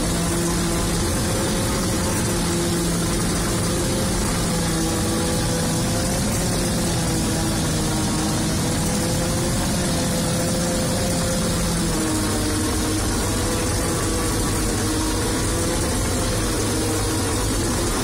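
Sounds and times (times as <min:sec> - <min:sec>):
forage harvester running under load: 0:00.0 - 0:18.0.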